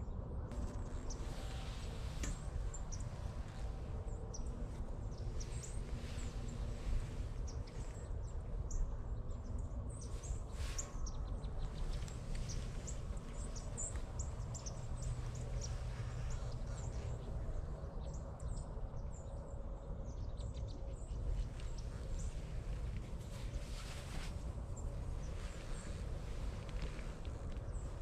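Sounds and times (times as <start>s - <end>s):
low background rumble: 0.0s - 28.0s
small birds chirping: 0.5s - 28.0s.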